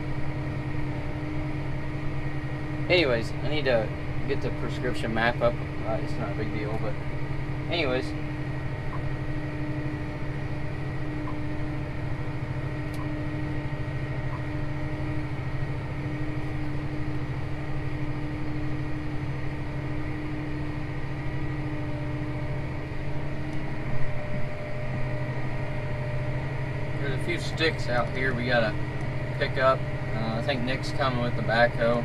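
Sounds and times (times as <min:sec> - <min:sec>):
tractor engine droning: 0:00.0 - 0:32.0.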